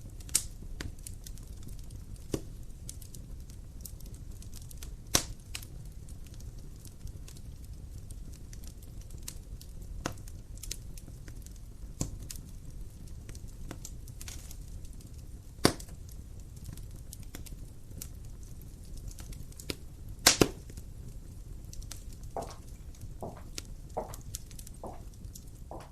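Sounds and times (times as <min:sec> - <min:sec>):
sharp pops of fire: 0:00.0 - 0:25.9
wood fire crackling: 0:00.0 - 0:25.9.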